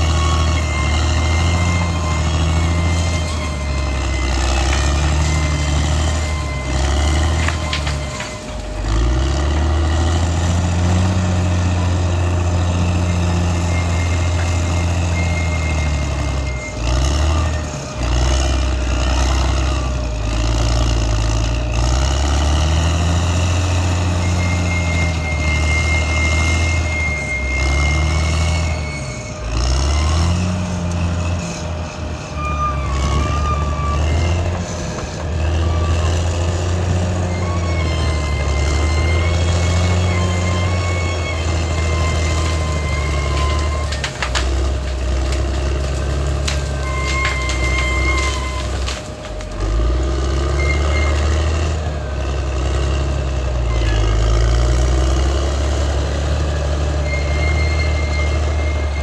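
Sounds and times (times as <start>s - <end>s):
bulldozer diesel engine running hard: 0.0s - 59.0s.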